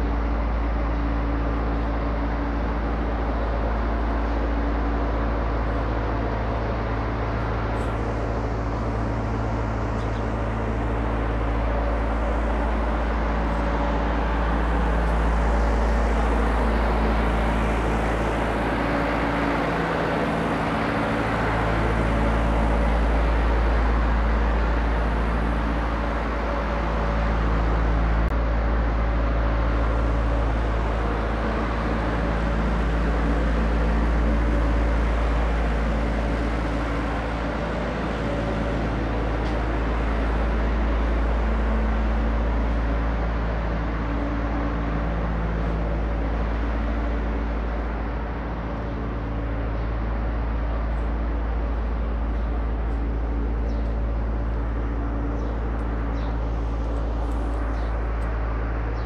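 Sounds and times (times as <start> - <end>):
heavy low rumble: 0.0 - 59.0
mechanical hum: 0.0 - 59.0.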